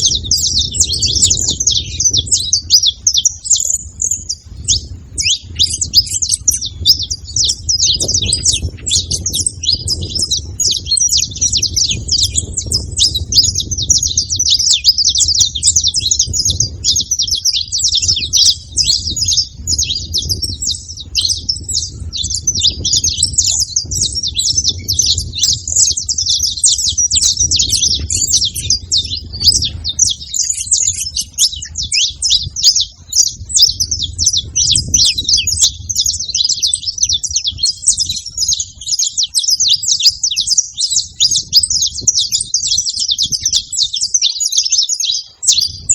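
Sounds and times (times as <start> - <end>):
finches chirping: 0.0 - 45.9.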